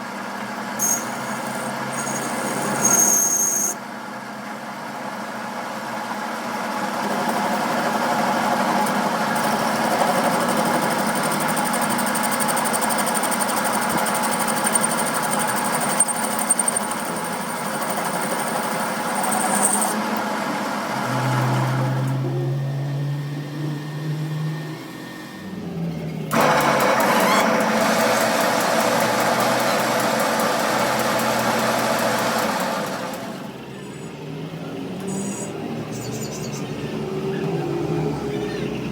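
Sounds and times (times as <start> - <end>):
machine running with high whine: 0.6 - 4.0, 6.6 - 38.9.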